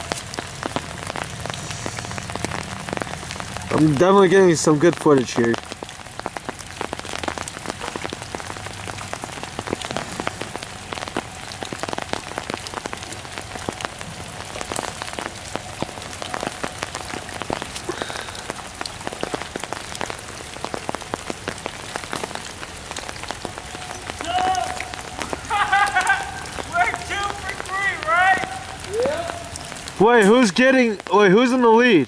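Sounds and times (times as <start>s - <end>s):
raindrops ticking: 0.0s - 32.0s
steady rain: 0.0s - 32.0s.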